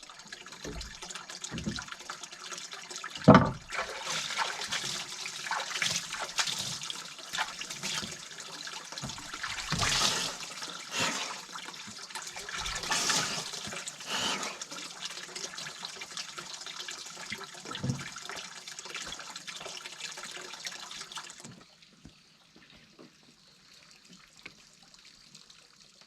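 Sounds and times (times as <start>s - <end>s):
water running and splashing: 0.0s - 21.8s
water trickling: 0.0s - 26.0s.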